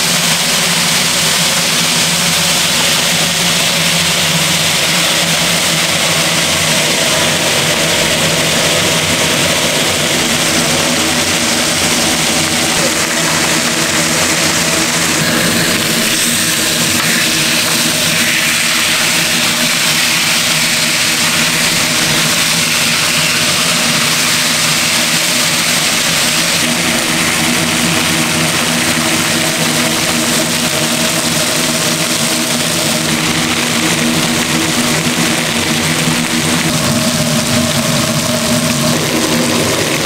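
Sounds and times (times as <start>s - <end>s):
machine drone with hiss: 0.0s - 40.0s.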